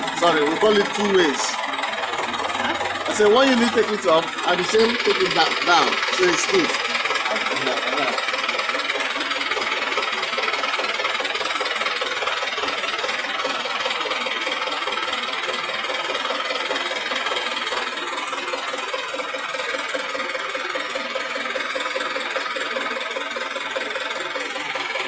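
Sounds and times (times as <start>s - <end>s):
drilling rig engine clattering: 0.0s - 25.0s.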